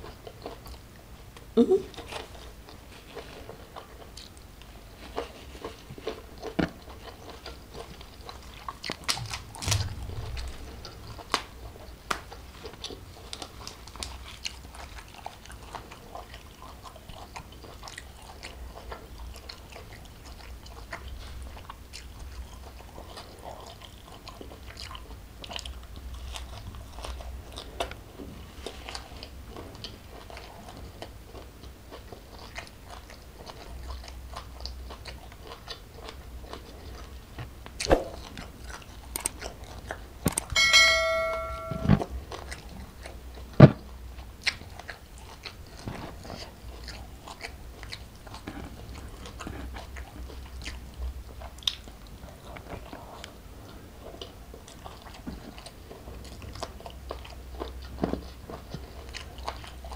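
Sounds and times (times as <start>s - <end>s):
crisp chewing crunches: 0.0s - 40.6s, 42.2s - 59.9s.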